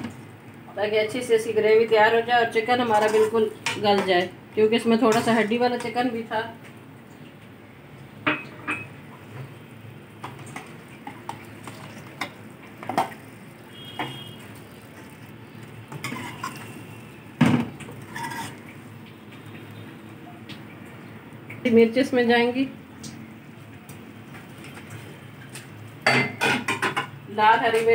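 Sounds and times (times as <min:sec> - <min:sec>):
gravy simmering: 0:00.0 - 0:27.2.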